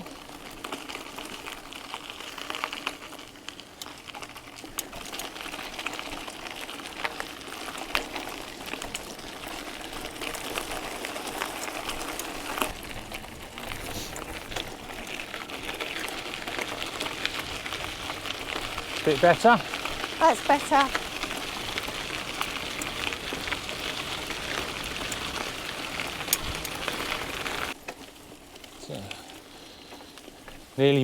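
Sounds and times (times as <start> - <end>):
stones clicking and crunching: 0.0 - 30.8
bicycle tyres on gravel: 0.0 - 31.0.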